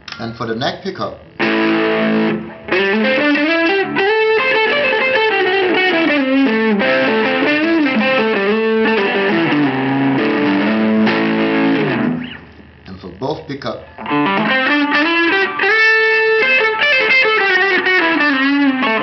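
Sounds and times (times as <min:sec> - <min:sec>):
overdriven electric guitar: 0:01.3 - 0:12.8, 0:13.9 - 0:19.0.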